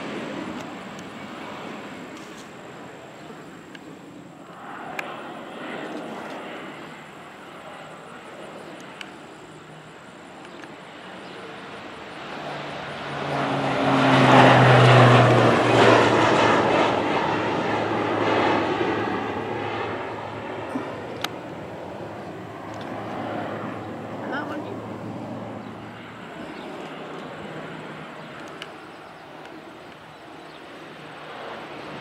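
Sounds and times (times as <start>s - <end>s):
airplane engine and propeller passing: 0.0s - 32.0s.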